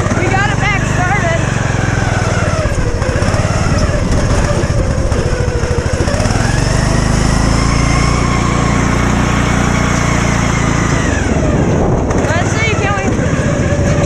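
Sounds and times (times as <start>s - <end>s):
lawn mower engine revving: 0.0s - 14.0s.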